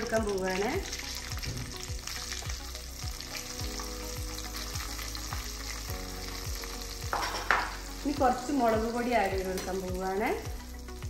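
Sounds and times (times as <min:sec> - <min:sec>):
background music with low beat: 0:00.0 - 0:11.0
hot oil sizzling in a pot: 0:00.0 - 0:11.0.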